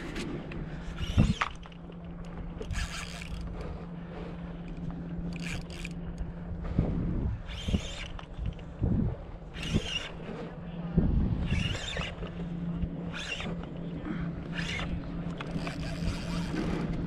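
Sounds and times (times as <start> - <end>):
rod and reel scrapes and clicks: 0.0 - 8.8, 9.4 - 17.0
steady low hum: 0.0 - 17.0.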